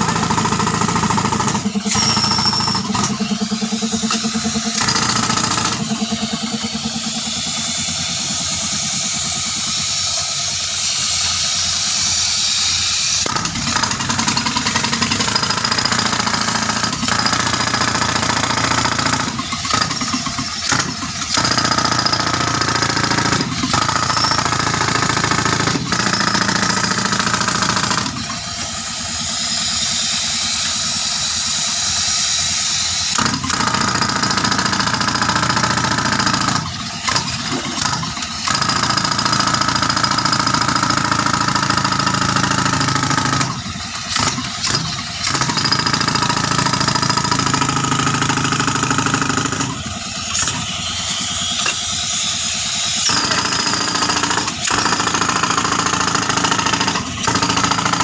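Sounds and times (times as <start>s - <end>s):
compressor engine running: 0.0s - 58.0s
pneumatic breaker hammering rock: 0.0s - 58.0s.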